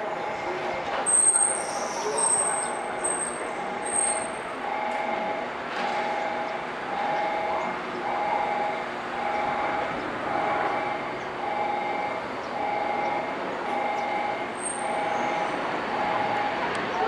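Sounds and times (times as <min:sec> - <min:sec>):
freight train running: 0:00.0 - 0:17.0.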